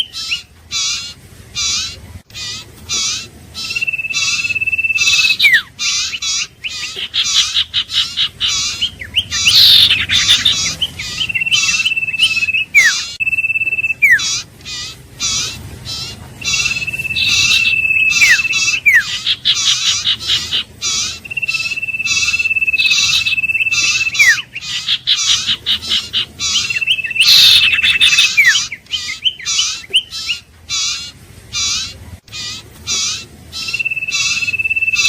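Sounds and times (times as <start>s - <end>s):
high whistled bird trill: 0.0s - 31.0s, 32.4s - 35.0s
short bird calls: 0.0s - 35.0s.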